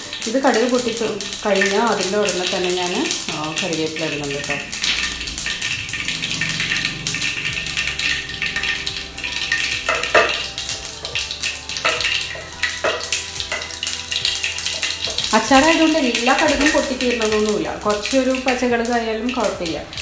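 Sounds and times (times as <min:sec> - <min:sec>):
seeds sizzling in hot oil: 0:00.0 - 0:20.0.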